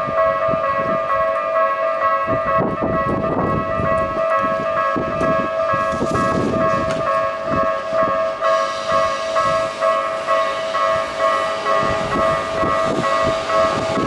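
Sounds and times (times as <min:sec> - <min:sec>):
train thumps and rumble: 0:02.2 - 0:14.0.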